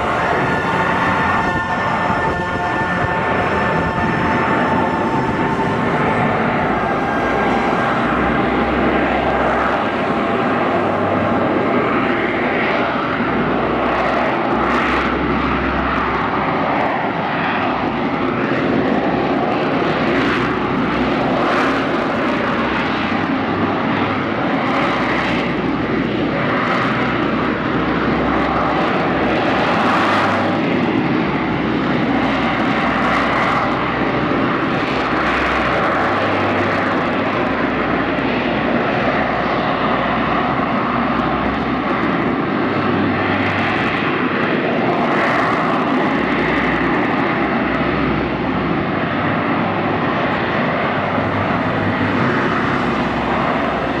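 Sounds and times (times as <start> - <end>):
jet engine rush: 0.0 - 54.0.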